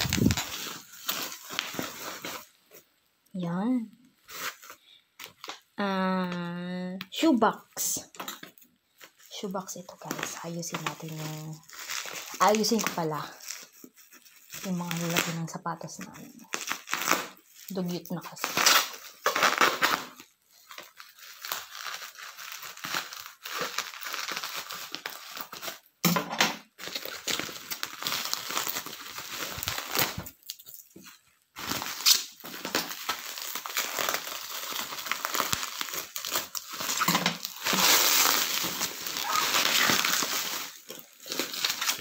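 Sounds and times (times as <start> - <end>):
bubble wrap crinkling: 0.0 - 26.0, 26.6 - 42.0.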